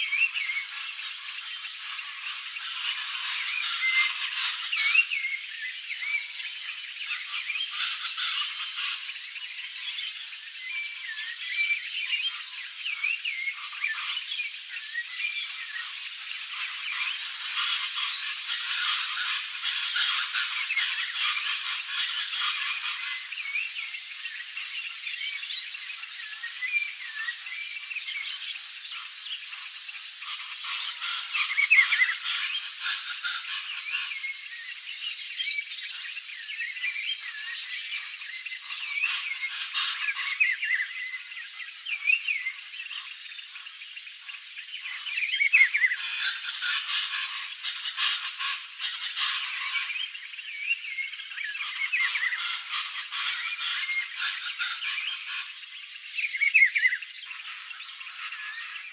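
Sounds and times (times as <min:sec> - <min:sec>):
chorus of chirping animals: 0:00.0 - 0:58.9.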